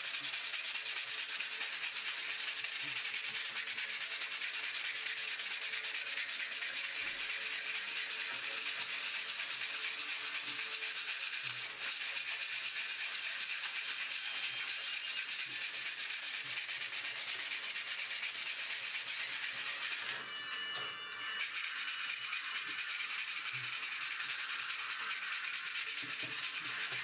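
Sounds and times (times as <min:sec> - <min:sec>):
abrasive pad scrubbing metal: 0:00.0 - 0:20.3, 0:21.3 - 0:27.0.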